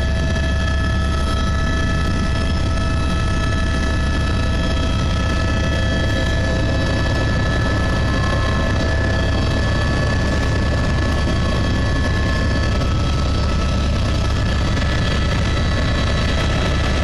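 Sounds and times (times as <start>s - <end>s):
helicopter rotor and engine rumble: 0.0s - 17.0s.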